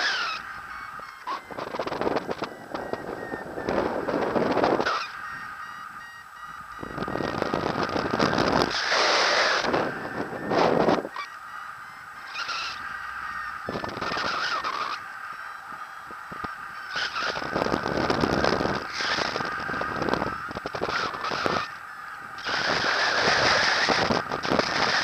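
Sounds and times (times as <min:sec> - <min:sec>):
steady high tone: 0:00.0 - 0:25.0
wind buffeting microphone: 0:00.0 - 0:25.0.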